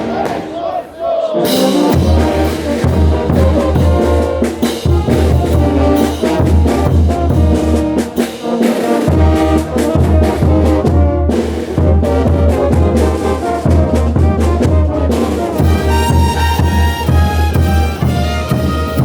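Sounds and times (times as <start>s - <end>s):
trumpets and trombones: 0.0s - 19.0s
bass drum beat: 1.9s - 8.0s, 9.1s - 19.0s.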